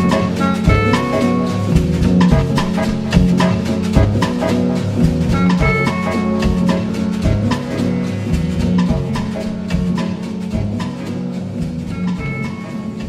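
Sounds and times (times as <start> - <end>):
dance music with drum beat: 0.0 - 13.0
pitched percussion: 0.0 - 13.0.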